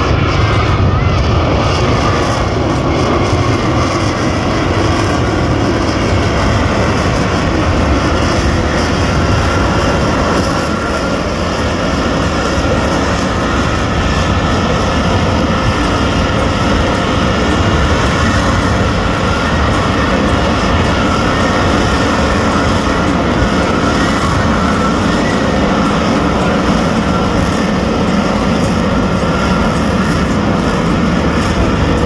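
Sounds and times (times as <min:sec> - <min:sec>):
aircraft engine drone overhead: 0:00.0 - 0:32.0.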